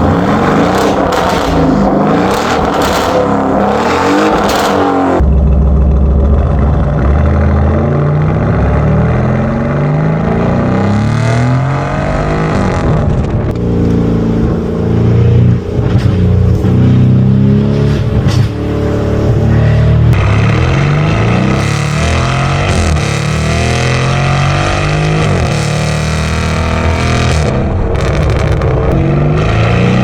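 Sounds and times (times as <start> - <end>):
car engine revving and accelerating: 0.0 - 5.2, 6.3 - 30.0.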